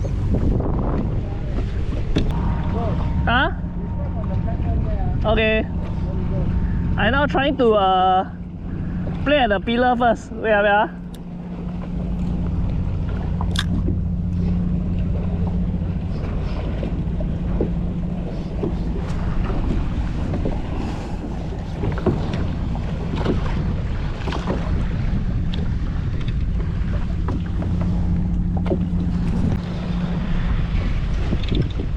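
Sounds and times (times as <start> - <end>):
steady low hum: 0.0 - 31.9
water splashes: 0.0 - 31.9
wind on microphone: 0.0 - 31.9.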